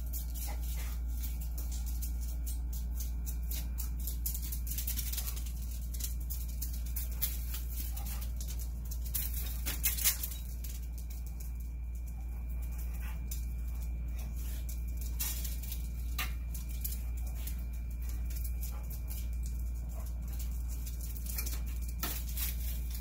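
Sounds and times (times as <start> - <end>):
dogs scrabbling on concrete and leaves: 0.0 - 23.0
low hum: 0.0 - 23.0.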